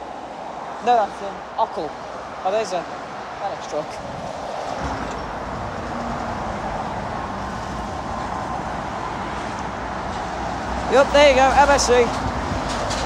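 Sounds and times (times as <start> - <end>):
highway traffic noise: 0.0 - 13.0.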